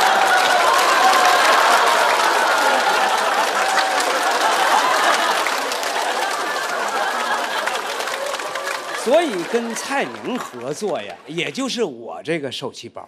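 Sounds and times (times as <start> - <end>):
audience laughing: 0.0 - 11.7
audience applauding: 0.0 - 11.9.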